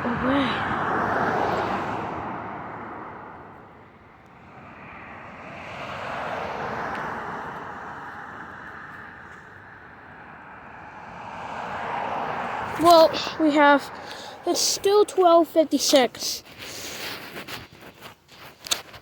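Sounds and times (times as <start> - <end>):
vehicles going by: 0.0 - 19.0.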